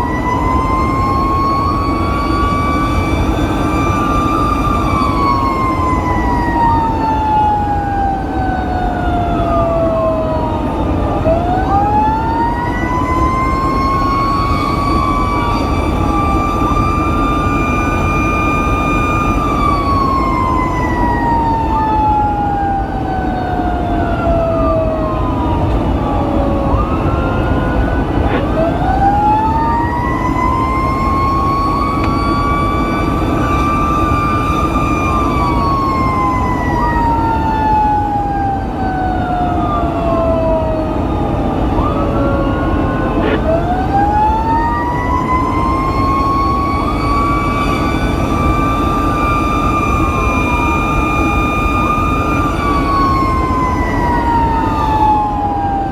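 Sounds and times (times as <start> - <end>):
faster siren tone: 0.0 - 55.9
fire engine siren wailing: 0.0 - 55.9
road noise: 0.0 - 55.9
truck engine rumble: 0.0 - 55.9.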